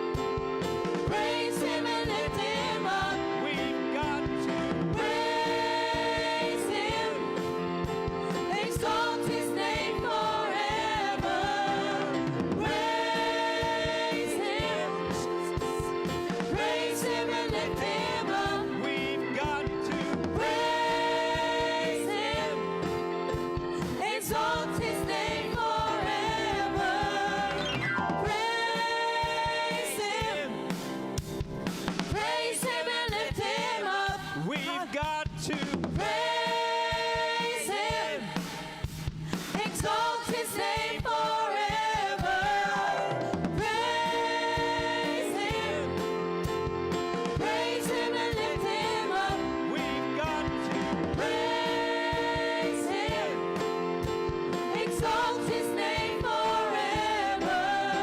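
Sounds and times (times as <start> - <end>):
instrumental accompaniment: 0.0 - 58.0
voices singing gospel song: 0.8 - 31.2, 31.8 - 58.0.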